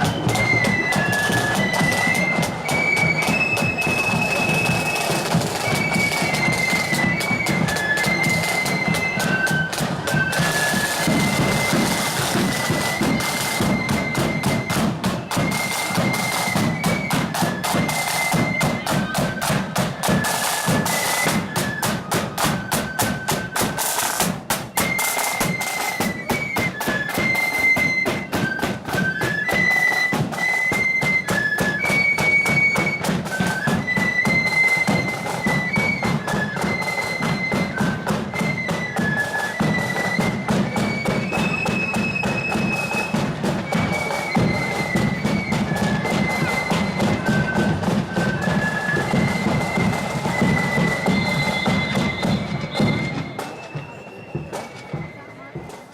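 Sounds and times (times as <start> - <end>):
flute melody: 0.0 - 55.9
snare and bass drums beat: 0.0 - 55.9.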